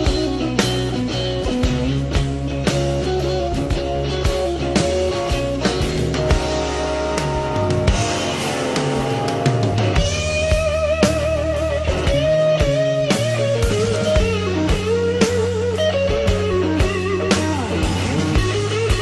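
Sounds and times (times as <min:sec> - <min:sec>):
bass guitar: 0:00.0 - 0:19.0
drum beat: 0:00.0 - 0:19.0
lead electric guitar: 0:00.0 - 0:19.0.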